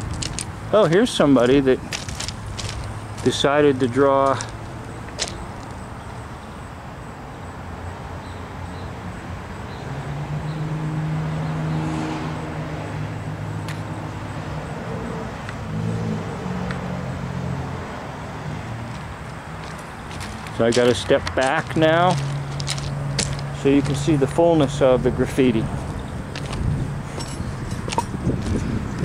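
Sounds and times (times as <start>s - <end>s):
vehicle engine low hum: 0.0s - 7.9s, 9.0s - 29.0s
background traffic: 0.0s - 29.0s.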